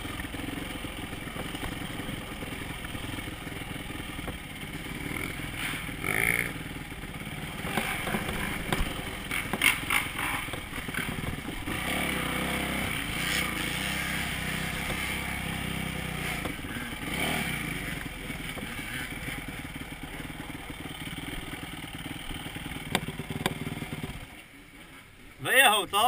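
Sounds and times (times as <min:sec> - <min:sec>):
dirt bike engine running: 0:00.0 - 0:25.8.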